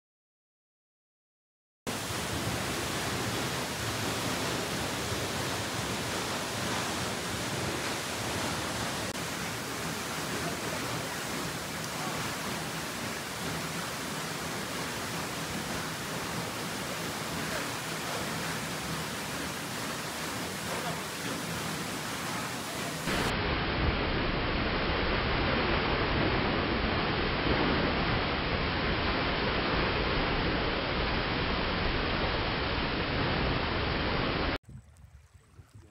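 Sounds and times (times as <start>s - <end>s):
rush of falling water: 1.9s - 34.6s.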